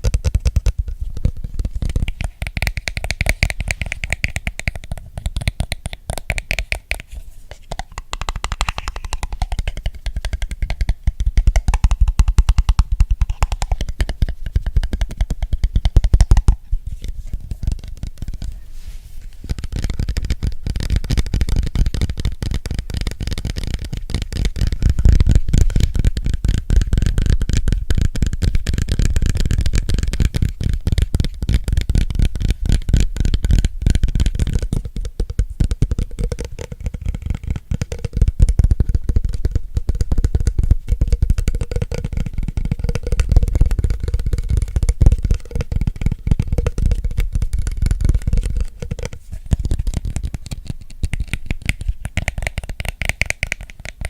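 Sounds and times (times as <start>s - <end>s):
fingernail tapping on object: 0.0s - 18.6s, 19.4s - 54.0s.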